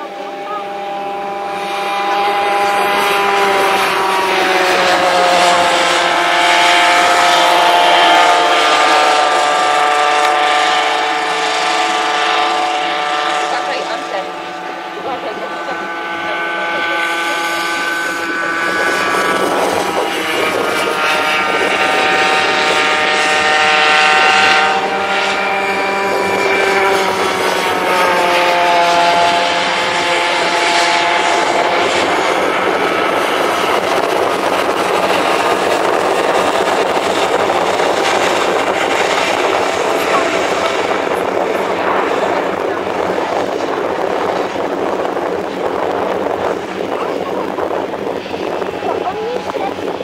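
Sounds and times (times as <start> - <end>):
kart engines buzzing: 0.0 - 50.0.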